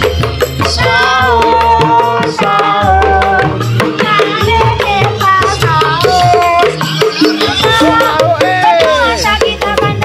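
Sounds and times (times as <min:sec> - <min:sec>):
music through portable speaker: 0:00.0 - 0:10.0.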